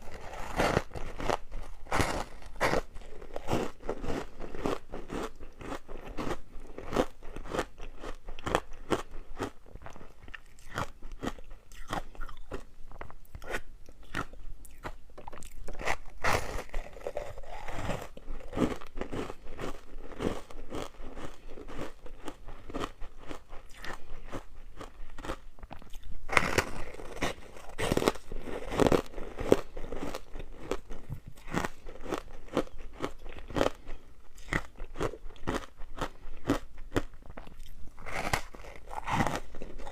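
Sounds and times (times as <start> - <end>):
ice being crunched by chewing: 0.0 - 39.9.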